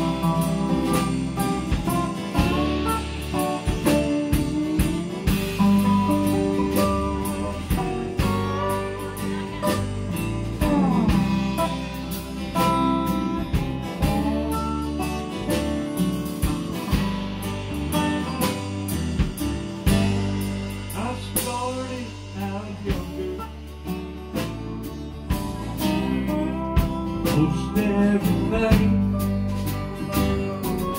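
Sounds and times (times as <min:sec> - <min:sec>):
low bass line: 0:00.0 - 0:30.9
slide guitar: 0:00.0 - 0:30.9
strummed acoustic guitars: 0:00.0 - 0:30.9.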